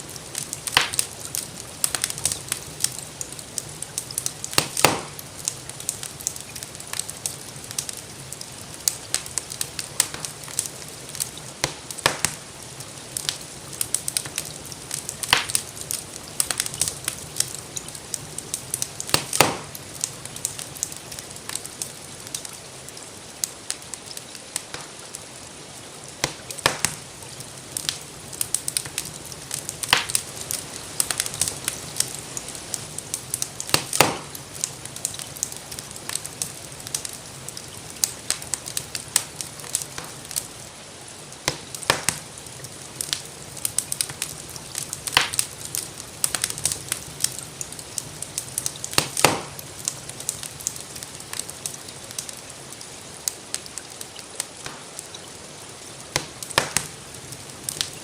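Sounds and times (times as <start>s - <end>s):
gentle rain hissing: 0.0s - 58.0s
wood fire crackling and popping: 0.0s - 58.0s.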